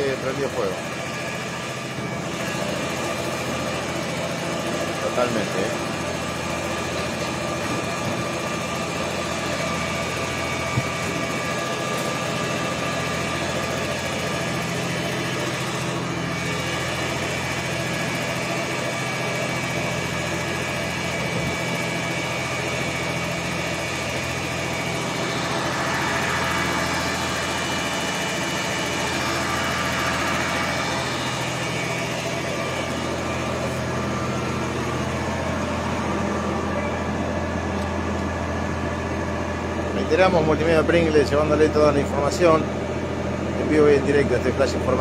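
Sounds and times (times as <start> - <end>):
fire engine motor humming: 0.0 - 45.0.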